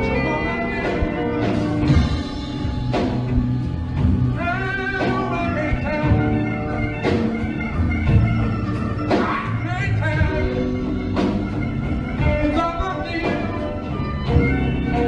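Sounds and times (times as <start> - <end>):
voices singing: 0.0 - 13.8
acoustic guitars: 0.0 - 15.0
steady beat: 0.0 - 15.0.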